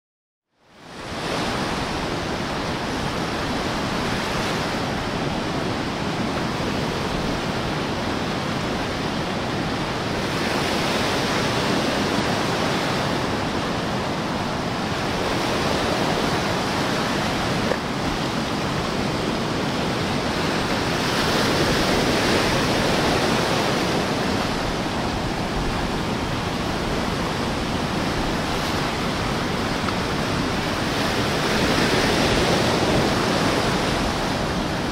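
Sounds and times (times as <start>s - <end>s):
waves washing over rocks: 0.9s - 34.9s.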